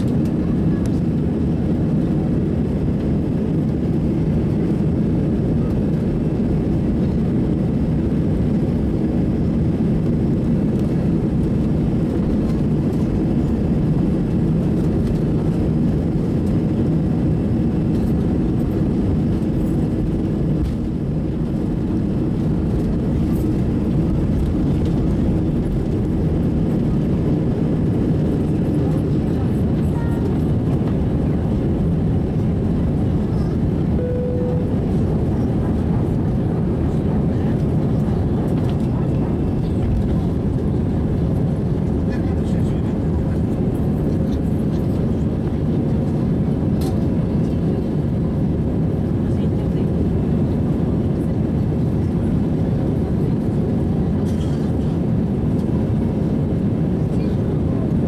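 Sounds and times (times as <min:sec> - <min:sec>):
jet engines at takeoff thrust: 0:00.0 - 0:58.0
wheels rumbling on runway: 0:00.0 - 0:58.0.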